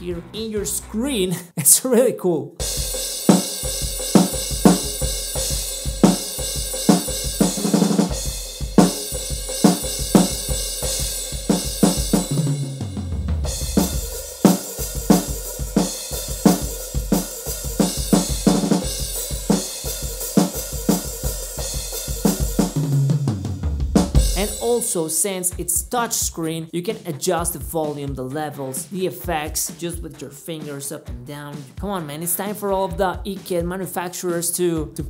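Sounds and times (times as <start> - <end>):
electronic drum kit beat: 0.0 - 1.7, 2.6 - 35.0
drum fill down the toms: 2.6 - 34.0.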